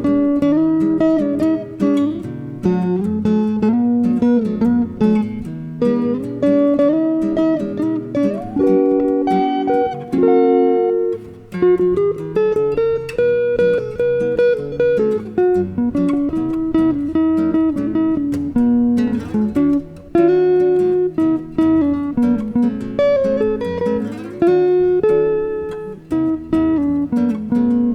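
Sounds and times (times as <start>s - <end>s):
electric guitar: 0.0s - 27.9s
nylon-string guitar: 0.0s - 27.9s.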